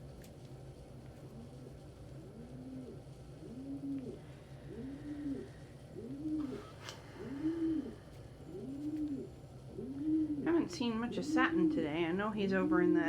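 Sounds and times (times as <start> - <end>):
pigeon cooing: 1.3 - 13.0.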